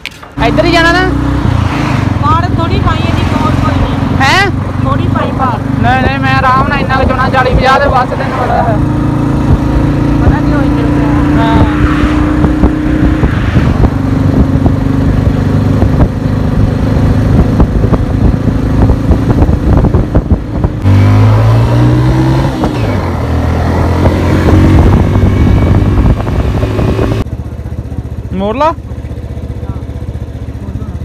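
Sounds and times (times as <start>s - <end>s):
motorcycle engine running: 0.1s - 31.0s.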